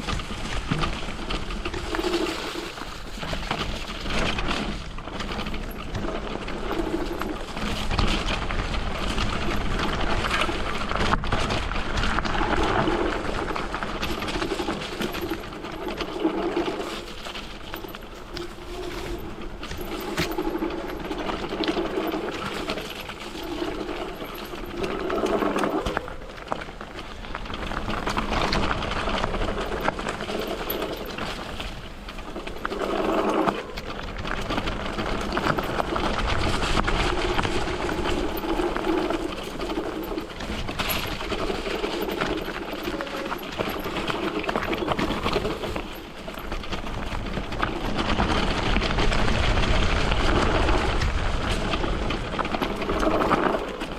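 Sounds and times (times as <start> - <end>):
tyres on gravel: 0.0 - 53.9.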